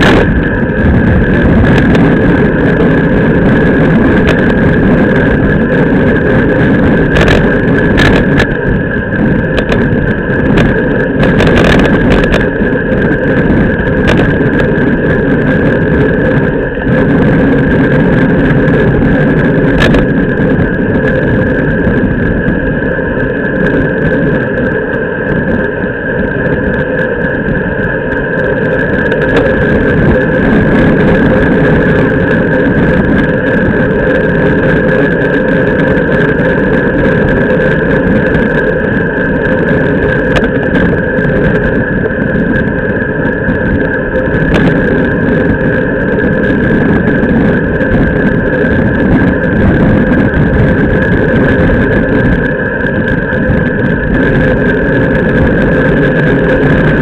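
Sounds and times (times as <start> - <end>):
wind rushing: 0.0 - 57.0.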